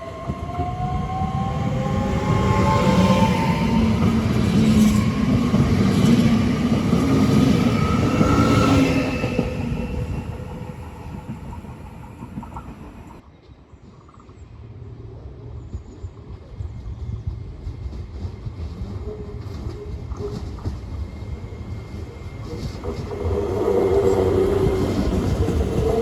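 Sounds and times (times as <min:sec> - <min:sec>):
train passing: 0:00.0 - 0:13.2, 0:15.7 - 0:26.0
train whine: 0:00.0 - 0:13.2, 0:14.8 - 0:26.0.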